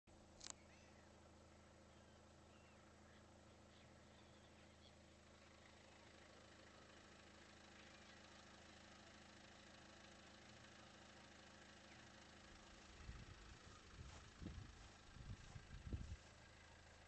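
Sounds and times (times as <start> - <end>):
faint low hum: 0.1 - 8.8, 11.6 - 17.0.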